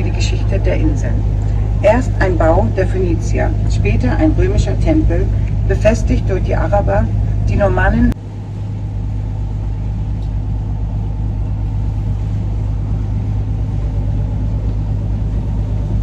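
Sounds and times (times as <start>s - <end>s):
boat engine drone: 0.0s - 16.0s.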